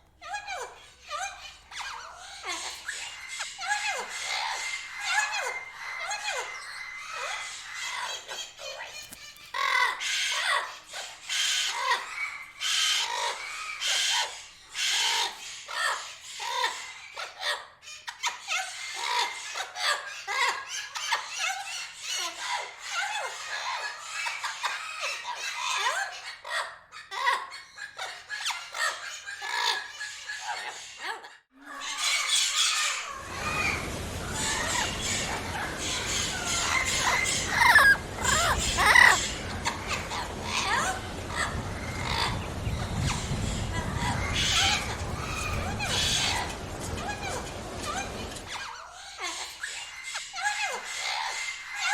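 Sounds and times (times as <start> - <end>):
parrot chattering and squawking: 0.2 - 51.9.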